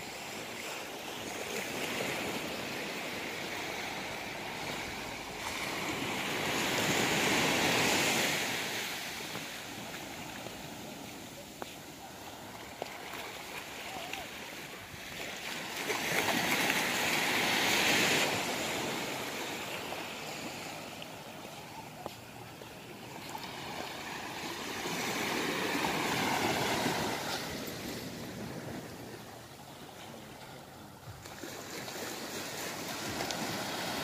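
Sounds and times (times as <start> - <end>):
small waves washing on sand: 0.0 - 34.0.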